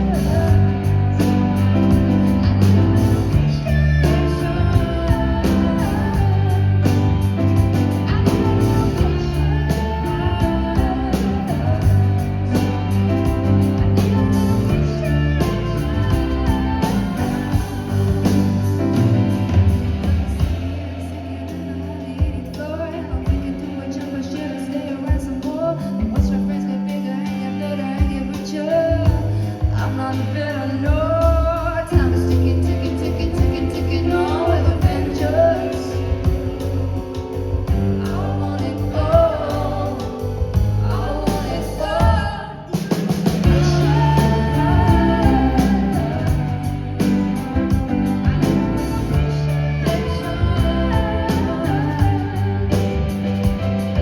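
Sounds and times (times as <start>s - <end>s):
band playing pop music: 0.0s - 54.0s
woman singing: 0.0s - 54.0s.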